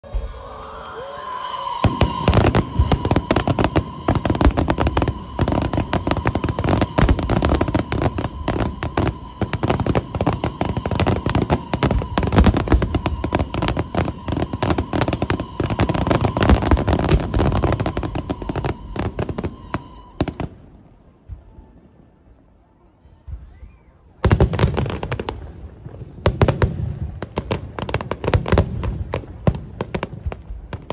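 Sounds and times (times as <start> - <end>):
fireworks bursts and crackles: 0.0 - 30.9.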